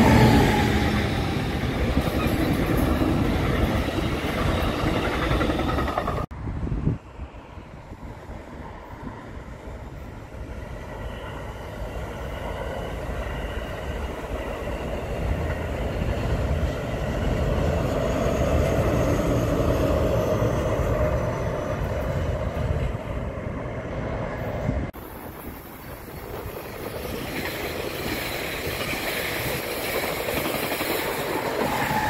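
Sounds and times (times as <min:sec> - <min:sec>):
train wheels on rails: 0:00.0 - 0:06.3, 0:07.9 - 0:32.0.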